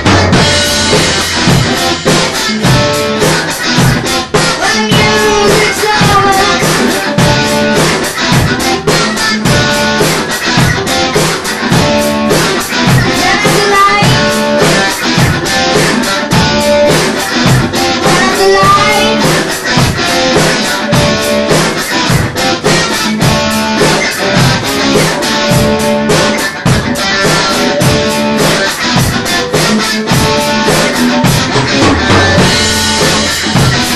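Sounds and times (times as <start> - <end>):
drum kit beat: 0.0 - 33.9
electric guitar: 0.0 - 33.9
rock band playing: 0.0 - 33.9.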